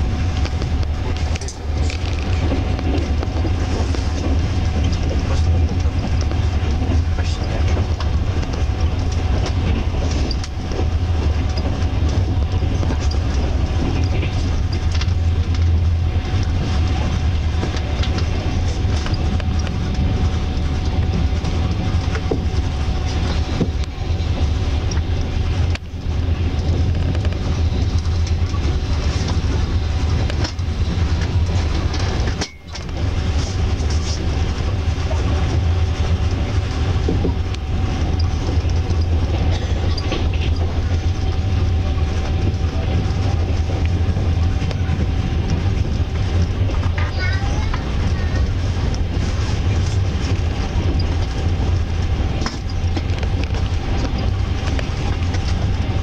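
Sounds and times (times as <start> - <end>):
train carriage rumble: 0.0 - 56.0
wheels clicking on rails: 0.0 - 56.0.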